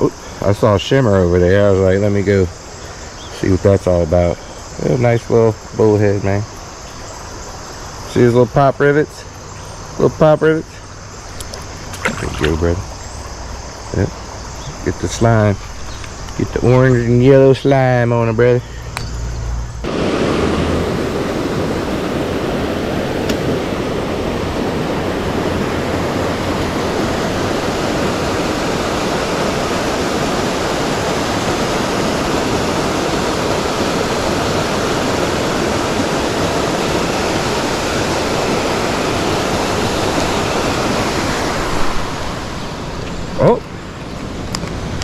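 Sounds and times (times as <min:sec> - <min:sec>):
rush of flowing water: 0:00.0 - 0:45.0.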